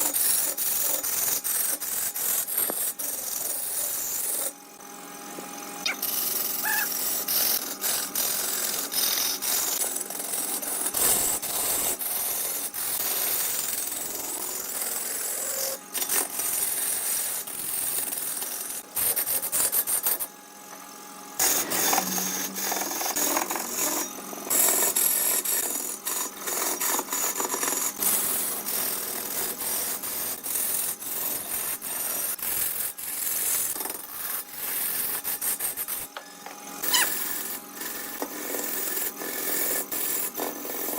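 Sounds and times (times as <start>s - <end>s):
lathe tool scraping spinning wood: 0.0s - 4.8s, 5.8s - 20.3s, 21.3s - 36.2s, 36.8s - 40.9s.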